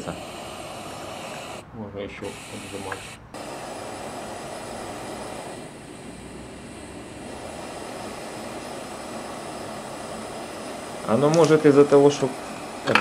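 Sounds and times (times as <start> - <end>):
stove burner hissing: 0.0 - 13.0.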